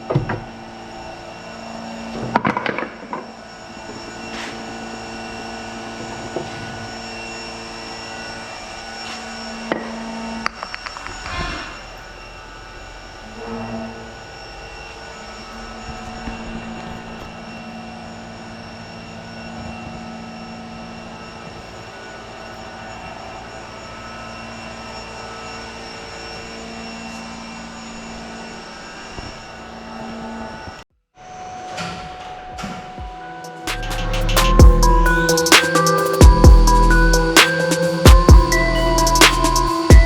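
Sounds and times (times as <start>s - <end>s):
electric motor humming with whine: 0.0s - 30.8s, 33.5s - 40.0s.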